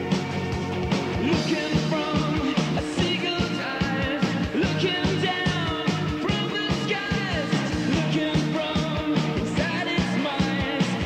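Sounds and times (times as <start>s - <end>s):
rock band music: 0.0s - 11.0s
steady drum beat: 0.0s - 11.0s.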